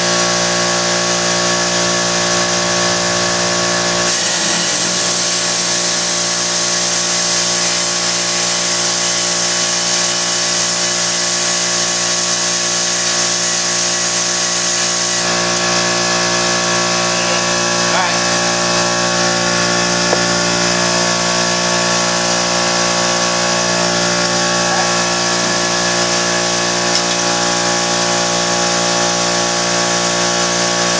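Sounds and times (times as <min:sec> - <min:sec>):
power tool motor running: 0:00.0 - 0:30.9.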